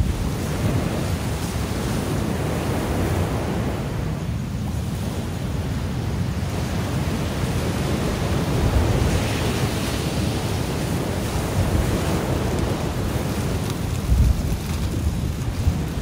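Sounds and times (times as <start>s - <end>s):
ocean waves washing onto shore: 0.0s - 16.0s
wind rumbling on microphone: 0.0s - 16.0s.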